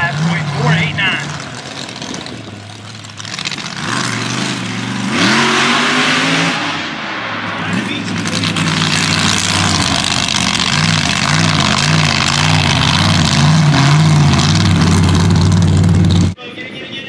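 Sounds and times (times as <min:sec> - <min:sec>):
truck engine revving: 0:00.0 - 0:16.4.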